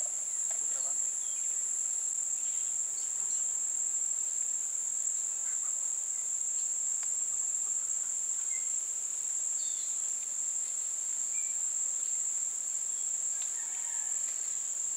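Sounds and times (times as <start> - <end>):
high-pitched insect chorus: 0.0 - 14.9.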